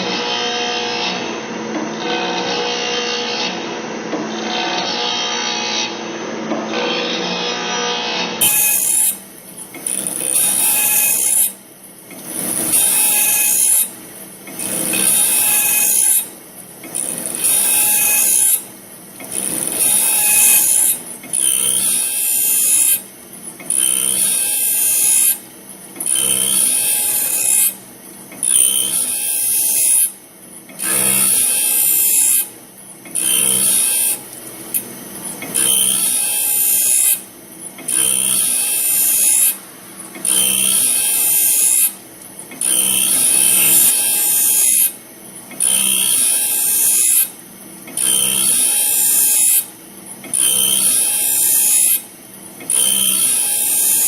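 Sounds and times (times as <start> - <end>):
steady motor hum: 0.0 - 54.0
blade sharpener grinding: 6.8 - 54.0.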